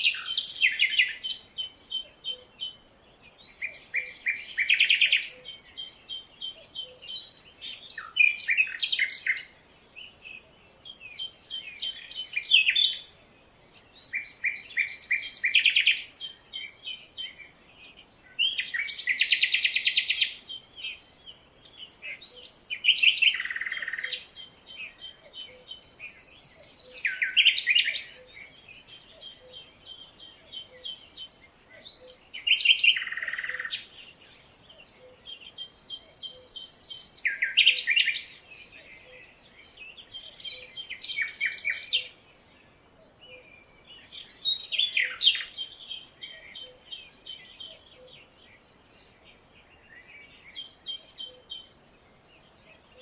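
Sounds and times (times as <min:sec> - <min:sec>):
soft rapid bird twittering: 0:00.0 - 0:53.0
songbirds singing: 0:00.0 - 0:53.0.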